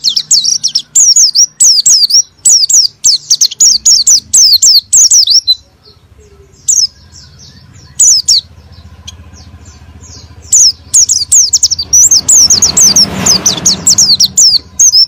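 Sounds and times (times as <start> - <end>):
bird singing high down-slurred notes: 0.0 - 15.0.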